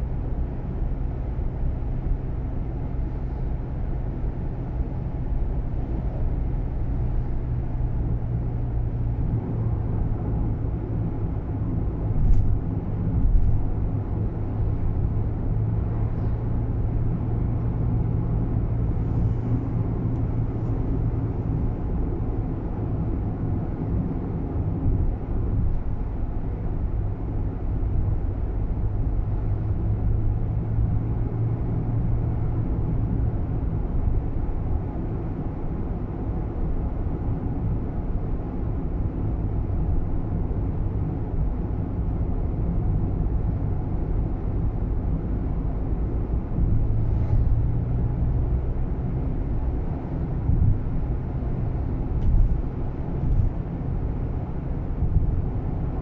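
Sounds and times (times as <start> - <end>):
low road and engine rumble: 0.0 - 56.0.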